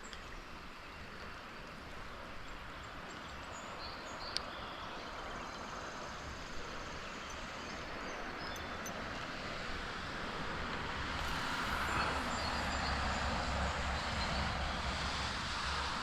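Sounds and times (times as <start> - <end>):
creek rushing: 0.1 - 16.0.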